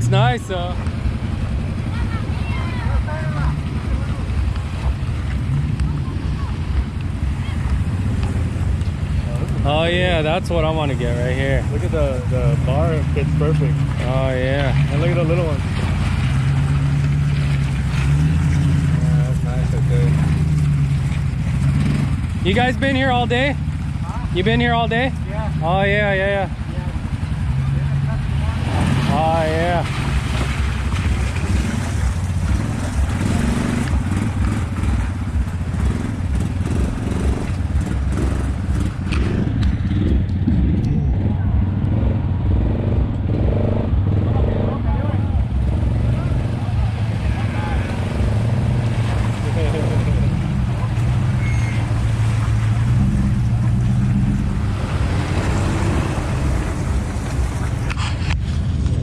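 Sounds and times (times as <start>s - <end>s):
rushing water: 0.0s - 40.5s, 45.1s - 59.0s
vehicle engine running: 0.0s - 59.0s.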